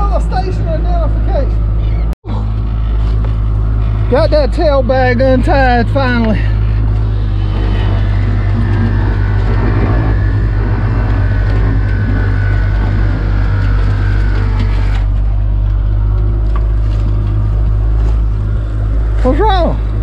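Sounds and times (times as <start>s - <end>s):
boat engine running: 0.0s - 20.0s
faint high whine: 2.7s - 20.0s.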